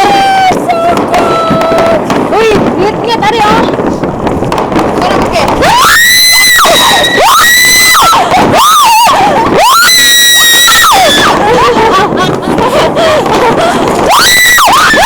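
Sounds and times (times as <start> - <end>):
crackling background: 0.0 - 9.9, 10.5 - 15.0
whistling fireworks shrieking: 0.0 - 15.0.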